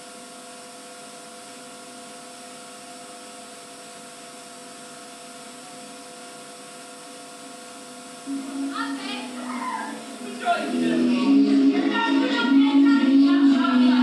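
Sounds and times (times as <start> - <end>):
faint electrical whines: 0.0 - 14.0
videotape hiss: 0.0 - 14.0.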